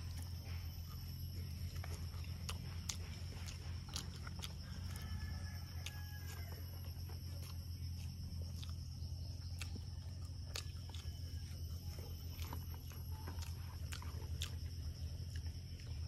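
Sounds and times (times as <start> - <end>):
high insect drone: 0.0 - 16.0
low steady hum: 0.0 - 16.0
person chewing food: 0.0 - 16.0.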